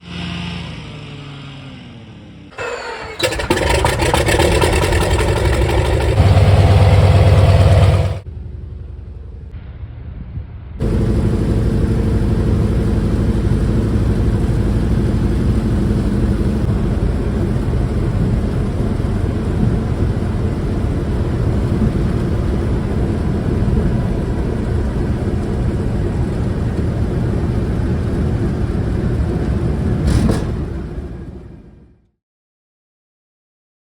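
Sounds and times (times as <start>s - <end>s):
propeller plane engine droning: 0.0s - 9.5s, 10.8s - 32.0s.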